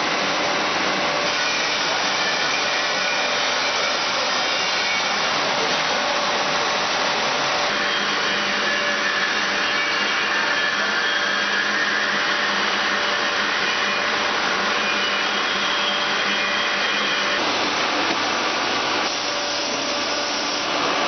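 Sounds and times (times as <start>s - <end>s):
woodworking machinery running: 0.0s - 21.0s.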